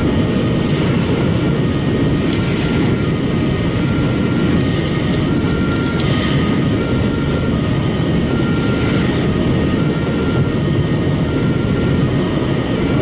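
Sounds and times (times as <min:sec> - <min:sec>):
car engine drone: 0:00.0 - 0:13.0
tyre and wind noise: 0:00.0 - 0:13.0.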